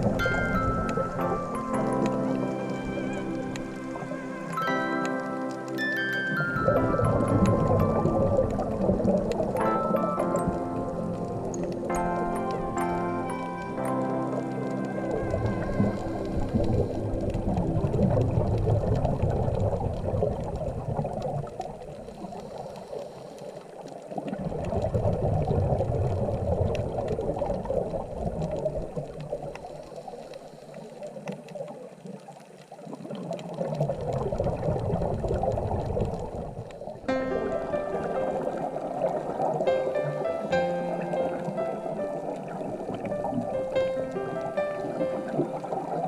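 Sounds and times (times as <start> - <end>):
underwater bubbles gurgling: 0.0 - 46.0.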